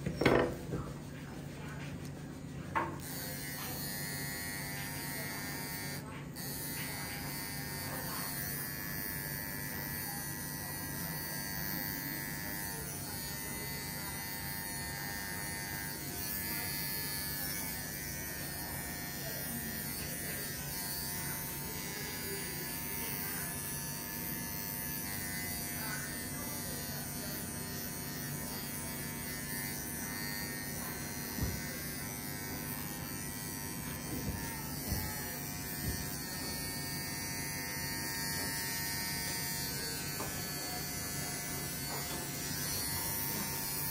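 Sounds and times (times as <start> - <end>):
electric hair clipper buzzing: 3.0 - 43.9.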